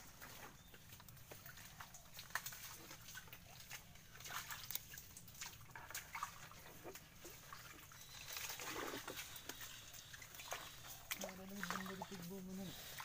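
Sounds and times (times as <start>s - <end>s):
small clicks and rustles: 0.0s - 11.8s
bare feet sloshing through mud: 0.0s - 13.0s.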